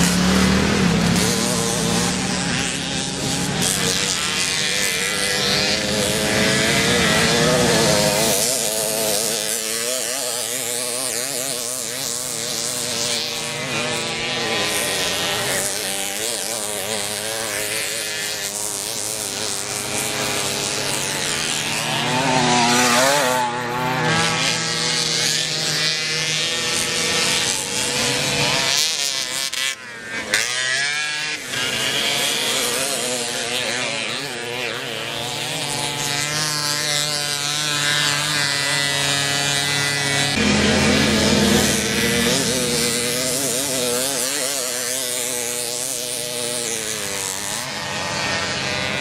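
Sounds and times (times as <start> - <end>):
two-stroke moped engines racing: 0.0 - 49.0.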